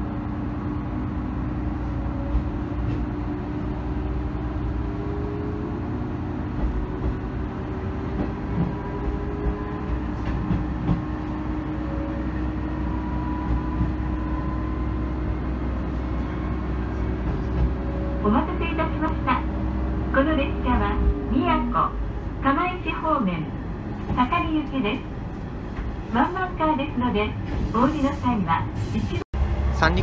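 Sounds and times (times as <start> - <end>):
train engine hum: 0.0 - 30.0.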